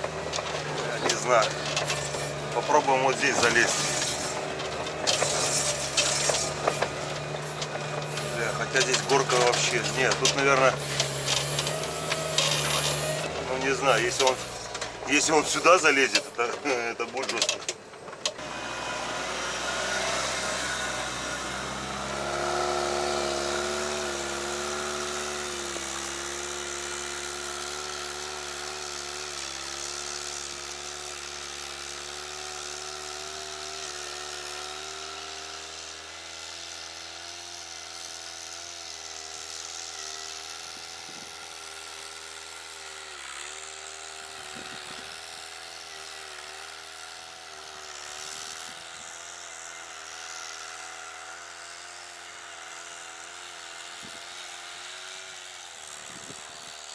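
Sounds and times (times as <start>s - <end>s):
vehicle engine droning under load: 0.0s - 56.9s.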